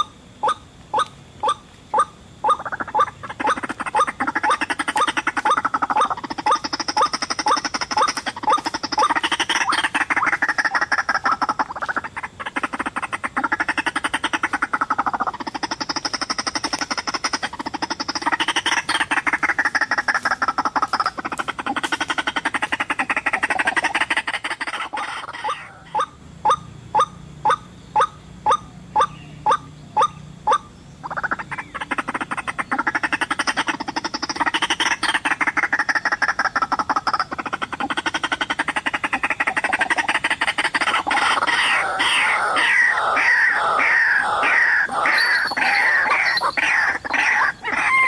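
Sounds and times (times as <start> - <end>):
waterhen harsh croaking calls: 0.0 - 48.0.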